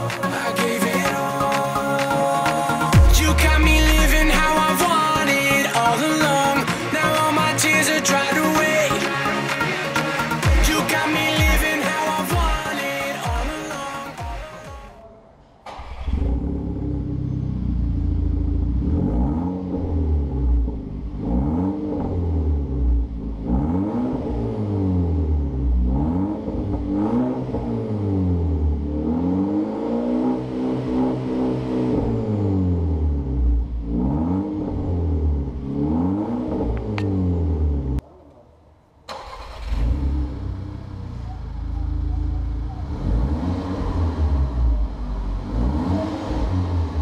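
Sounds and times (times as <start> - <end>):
car engine revving: 0.0 - 14.6, 15.4 - 38.0, 39.1 - 47.0.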